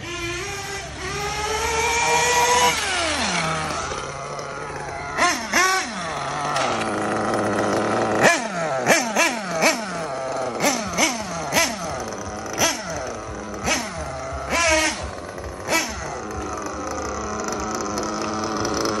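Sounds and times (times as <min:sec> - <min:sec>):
nitro engine revving: 0:00.0 - 0:19.0.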